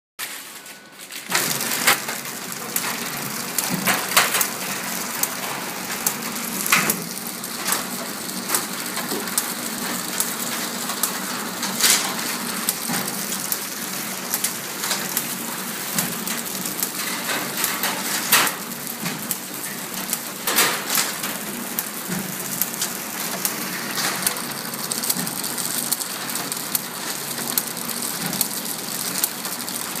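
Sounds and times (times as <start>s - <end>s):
packing machine clattering: 0.2s - 30.0s.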